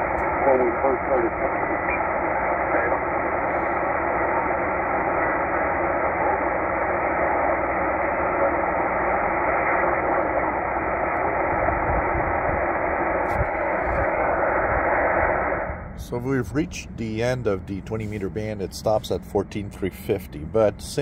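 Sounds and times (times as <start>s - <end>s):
radio static: 0.0s - 21.0s.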